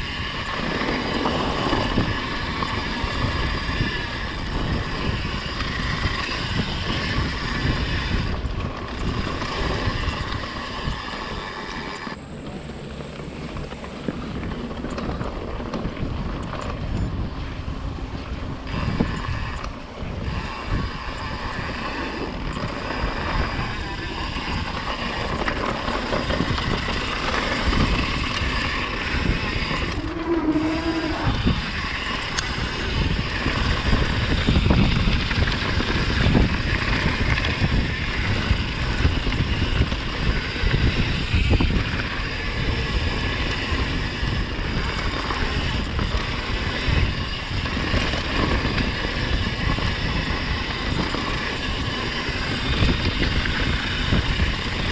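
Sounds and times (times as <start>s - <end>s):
bike rattling over rough trail: 0.0s - 54.9s
wind rushing over microphone: 0.0s - 54.9s.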